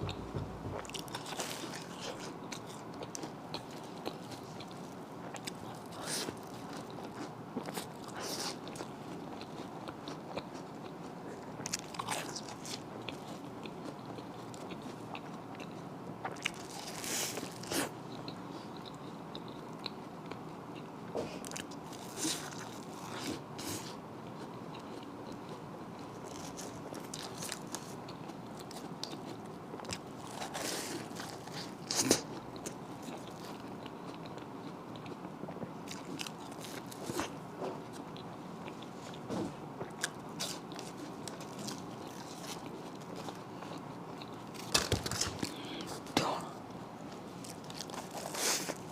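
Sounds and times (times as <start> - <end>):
chewing: 0.0 - 46.0, 47.4 - 48.9.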